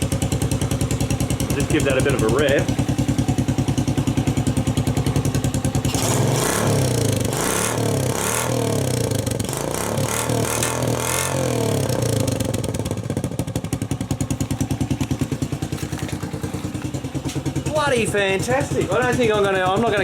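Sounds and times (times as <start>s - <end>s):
motorbike engine idling and revving: 0.0s - 20.0s.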